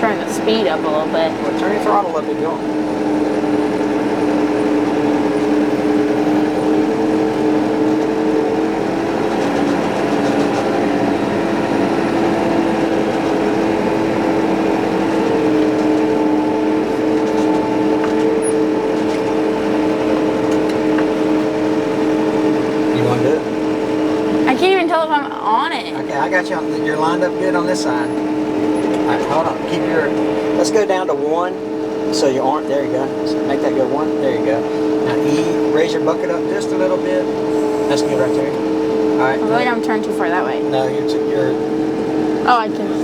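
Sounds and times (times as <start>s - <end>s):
diesel tractor engine running: 0.0s - 43.0s.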